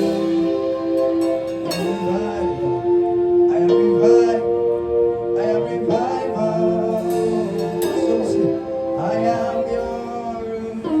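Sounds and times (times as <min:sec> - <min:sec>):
held instrumental chords: 0:00.0 - 0:11.0
person singing wavering melody: 0:00.0 - 0:11.0.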